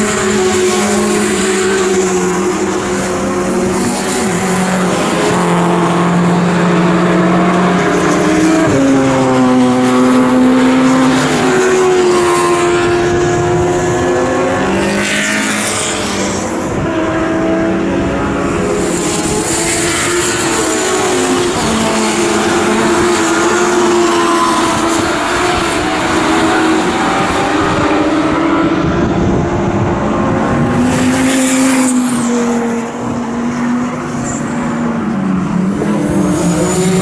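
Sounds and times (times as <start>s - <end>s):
race car engines revving: 0.0s - 37.0s.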